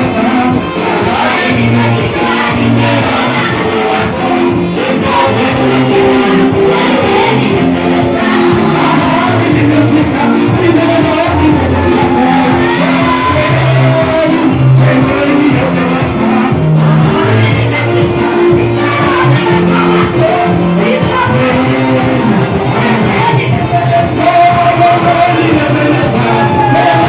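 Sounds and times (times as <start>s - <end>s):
gospel band with singing: 0.0s - 27.0s.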